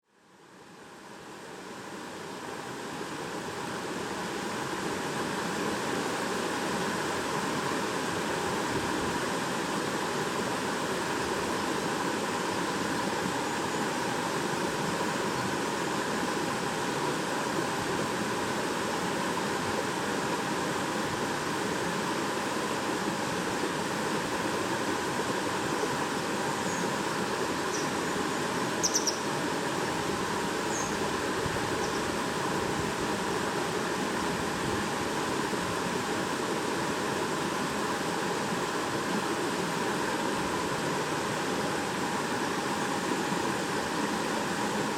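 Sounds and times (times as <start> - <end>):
stream babbling over stones: 1.8 - 44.9.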